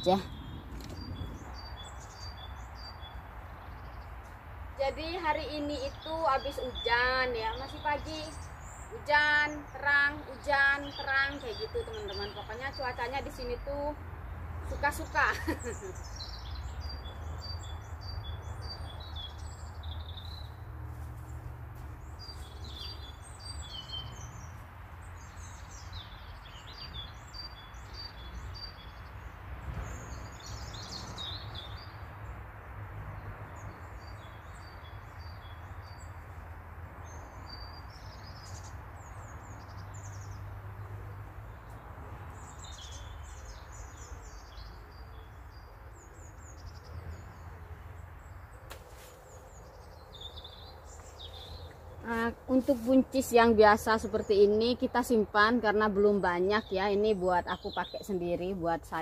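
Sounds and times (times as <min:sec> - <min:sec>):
birds chirping: 0:00.0 - 0:32.5, 0:33.1 - 0:59.0.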